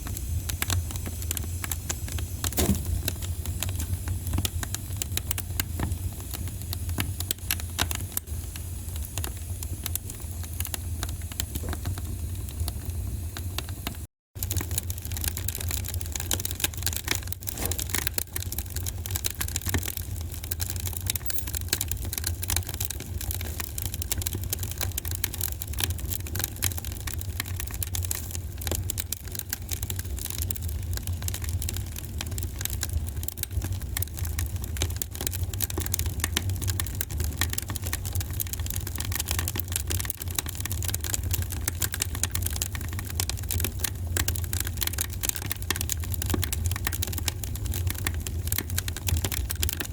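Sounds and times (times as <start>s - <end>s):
wood fire crackling: 0.0s - 13.8s, 14.4s - 49.9s
low fire rumble: 0.0s - 49.9s.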